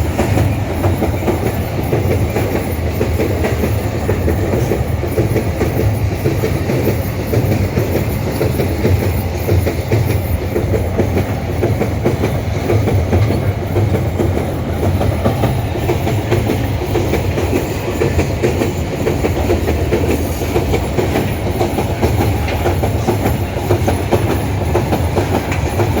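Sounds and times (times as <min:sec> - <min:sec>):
freight train rolling past: 0:00.0 - 0:26.0
wheels clattering on rails: 0:00.0 - 0:26.0.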